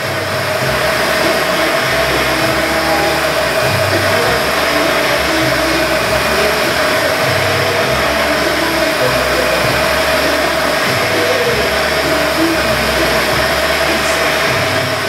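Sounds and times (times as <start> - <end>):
glass polishing machine whirring: 0.0 - 15.0.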